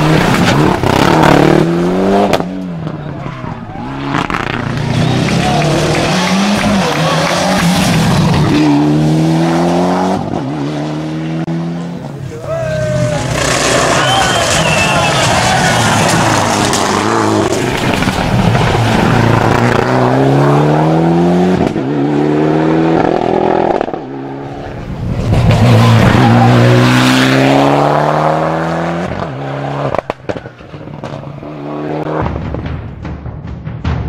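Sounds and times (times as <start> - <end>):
car engine accelerating hard: 3.8 - 12.2, 13.1 - 32.2.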